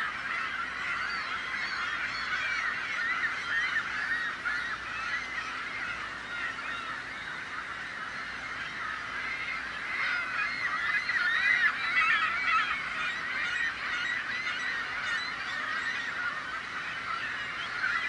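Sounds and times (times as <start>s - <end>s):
gulls squawking: 0.0s - 18.0s.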